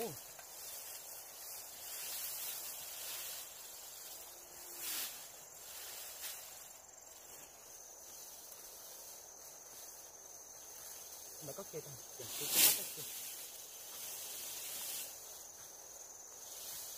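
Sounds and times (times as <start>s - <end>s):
insects chirping: 0.0s - 16.9s
outdoor background hiss: 0.0s - 16.9s.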